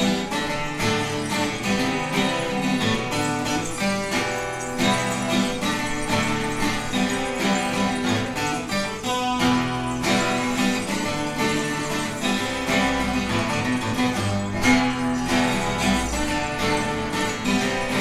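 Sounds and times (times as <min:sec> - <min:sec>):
acoustic guitar strummed and picked: 0:00.0 - 0:18.0.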